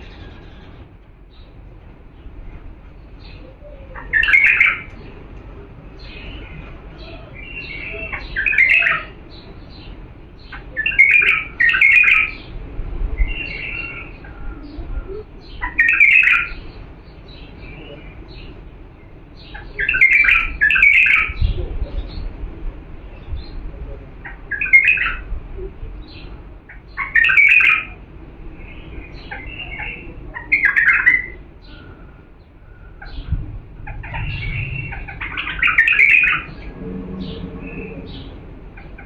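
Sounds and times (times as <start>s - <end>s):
bird warbling song: 0.0s - 22.4s, 25.9s - 39.0s.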